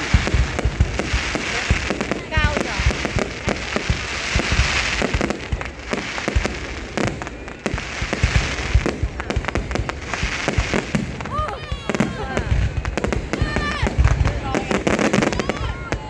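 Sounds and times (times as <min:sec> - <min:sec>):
fireworks booms and bangs: 0:00.0 - 0:16.0
fireworks crackling: 0:00.0 - 0:16.0.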